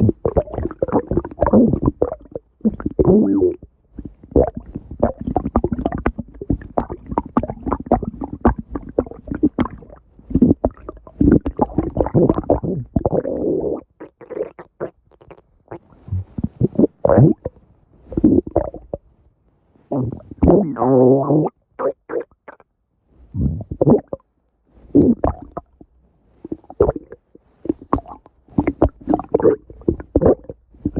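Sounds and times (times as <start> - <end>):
stomach growling and gurgling: 0.0 - 19.1, 19.8 - 22.7, 23.3 - 30.9.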